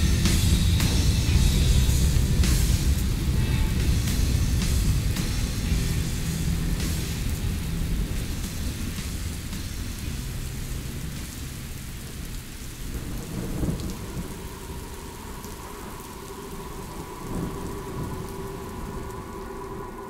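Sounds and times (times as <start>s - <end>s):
rain hissing: 0.0s - 20.0s
thunder rumbling: 0.0s - 20.0s.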